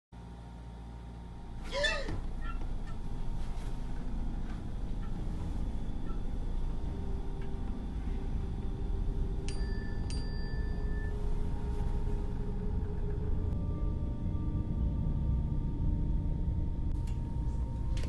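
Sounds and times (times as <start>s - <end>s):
air conditioner hum: 0.2s - 13.6s, 16.9s - 18.0s.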